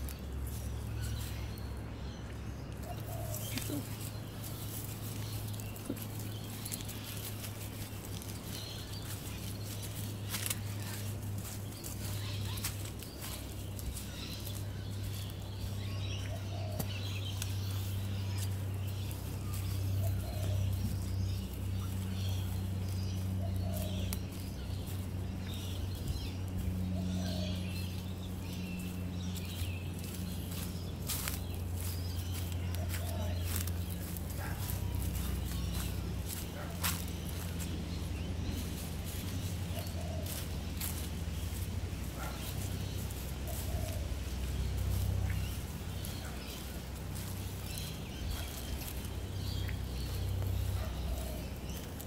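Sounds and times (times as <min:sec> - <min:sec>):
birds chirping and calling: 0:00.0 - 0:52.0
lower bird calls: 0:00.0 - 0:52.0
steady low hum: 0:00.0 - 0:52.0.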